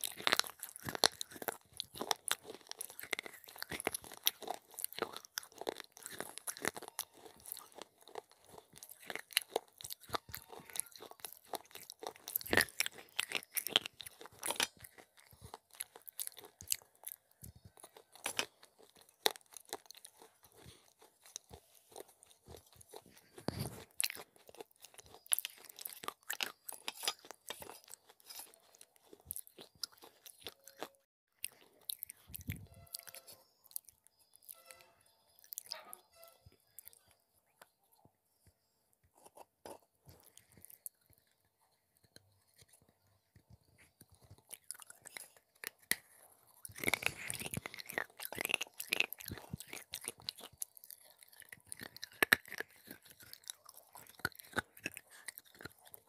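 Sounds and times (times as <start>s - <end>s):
crunching and chewing: 0.0s - 56.0s.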